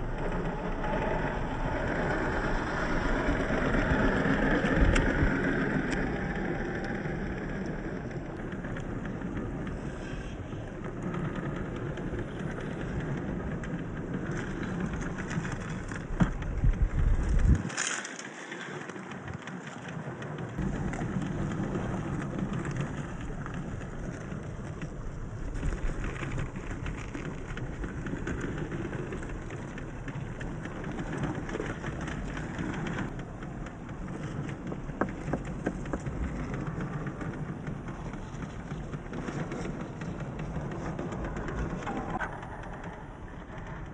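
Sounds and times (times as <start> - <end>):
rc car drivetrain: 0.0 - 43.9
tyres crackling over rough ground: 0.0 - 43.9.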